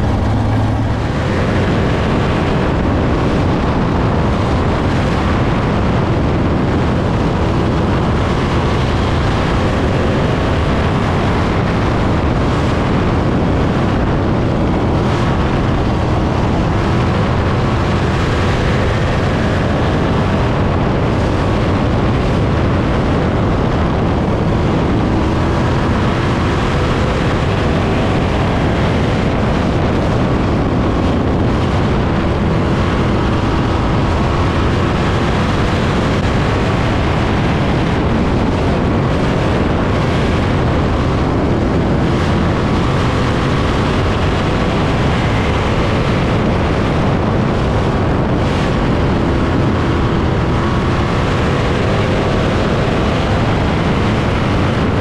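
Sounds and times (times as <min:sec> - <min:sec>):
race car engine at speed: 0:00.0 - 0:55.0.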